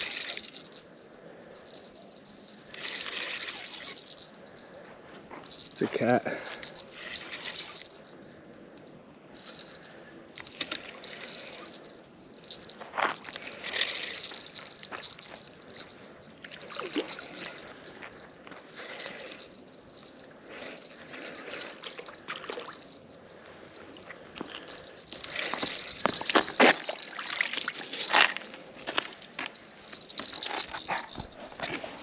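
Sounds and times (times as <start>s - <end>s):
fishing reel whine: 0.0s - 32.0s.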